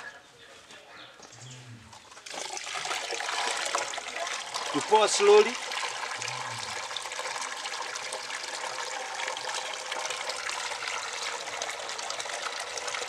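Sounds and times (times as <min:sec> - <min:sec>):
slurry trickling down pipe: 0:01.9 - 0:13.0.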